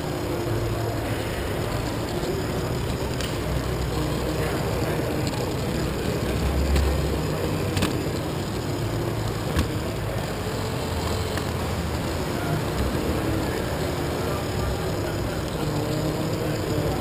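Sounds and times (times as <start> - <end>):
toy train motor rumbling: 0.0 - 17.0.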